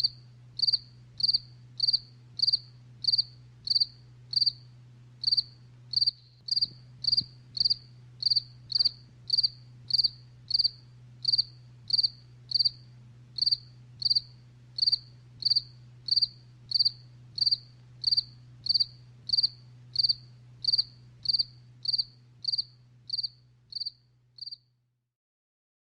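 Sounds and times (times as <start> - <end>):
cricket chirping: 0.0 - 24.7
faint low hum: 0.0 - 24.9.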